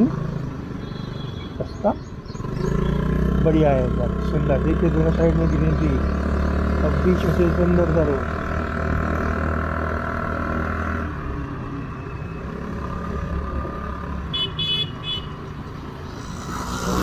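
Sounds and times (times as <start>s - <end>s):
wind and road noise: 0.0s - 17.0s
scooter engine hum: 2.2s - 17.0s.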